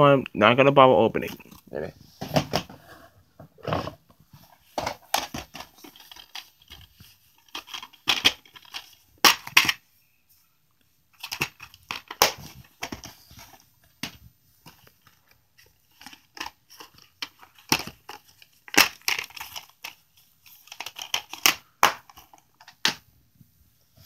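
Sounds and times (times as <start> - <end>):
plastic cases clacking: 2.2 - 9.8, 11.2 - 23.1.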